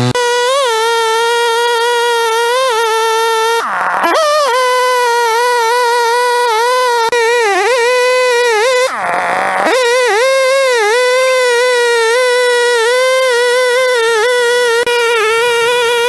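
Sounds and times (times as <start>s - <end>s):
chainsaw ripping a log: 0.0s - 16.0s.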